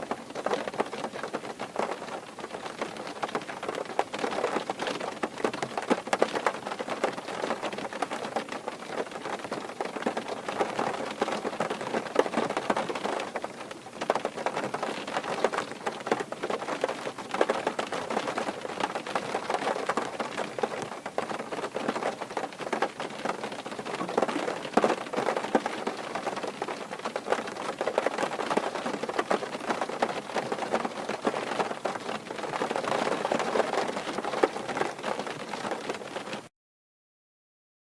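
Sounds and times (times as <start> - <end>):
rain drumming on car roof: 0.0 - 36.5.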